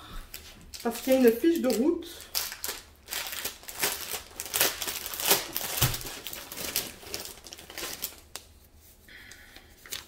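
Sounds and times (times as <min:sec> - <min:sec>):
plastic film and paper crinkling: 0:00.3 - 0:08.8, 0:09.7 - 0:10.0.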